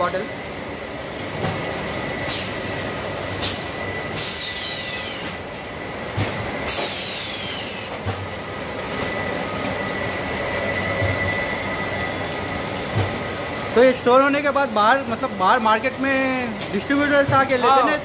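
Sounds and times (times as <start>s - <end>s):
machinery hum with high whine: 0.0s - 18.0s.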